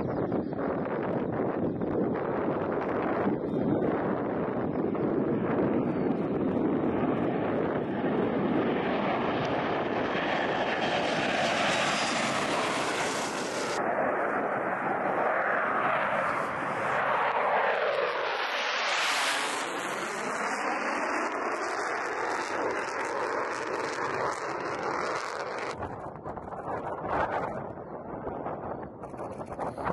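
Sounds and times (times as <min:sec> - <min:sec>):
jet engine roaring: 0:00.0 - 0:29.9.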